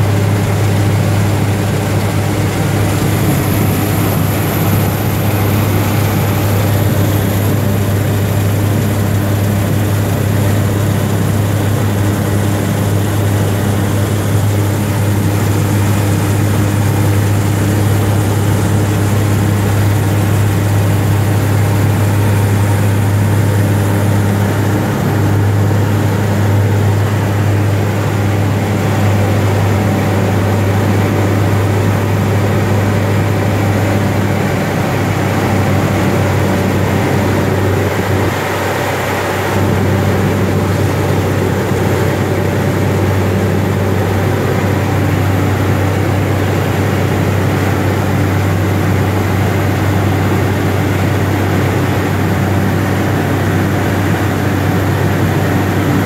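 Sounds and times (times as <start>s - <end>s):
high engine whine: 0.0s - 56.0s
turboprop engine drone: 0.0s - 56.0s.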